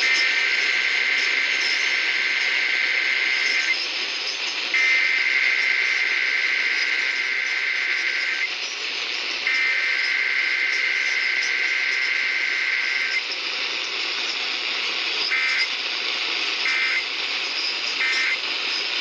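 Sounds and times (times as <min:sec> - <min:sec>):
digital data tones: 0:00.0 - 0:13.3, 0:15.2 - 0:15.8, 0:16.4 - 0:19.0
radio hiss: 0:00.0 - 0:19.0.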